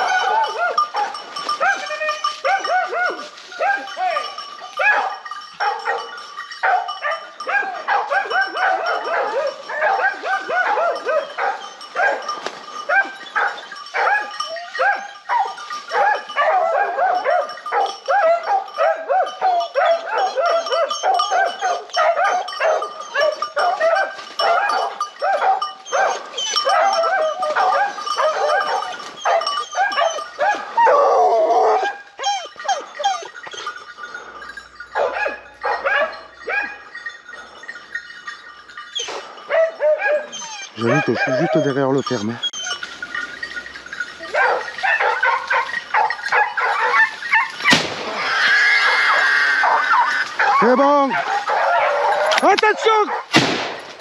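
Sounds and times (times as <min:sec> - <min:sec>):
hounds baying and yelping: 0:00.0 - 0:54.0.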